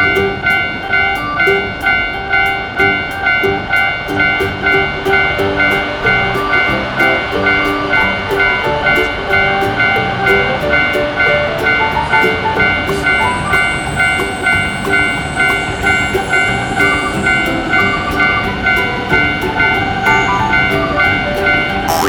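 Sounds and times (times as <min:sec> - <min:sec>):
background music: 0:00.0 - 0:22.0
railroad crossing warning bell: 0:00.0 - 0:22.0.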